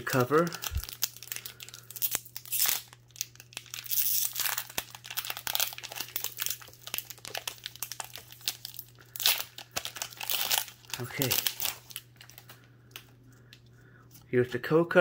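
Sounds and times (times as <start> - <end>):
foil wrapper tearing and crinkling: 0.0 - 12.6.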